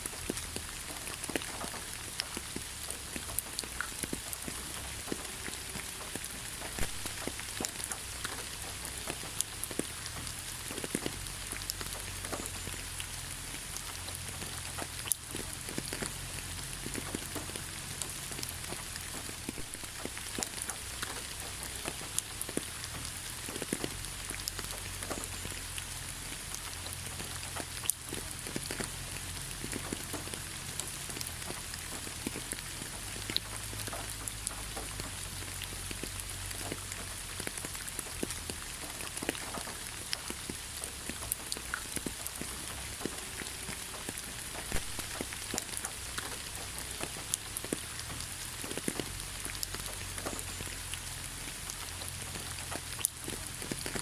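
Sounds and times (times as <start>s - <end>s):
rain hissing: 0.0s - 54.0s
raindrops striking: 0.0s - 54.0s.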